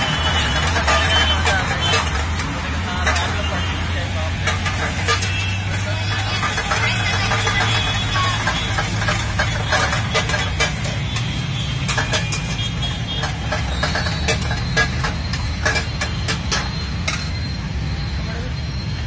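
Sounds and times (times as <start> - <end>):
spatula scraping a frying pan: 0.0 - 17.4.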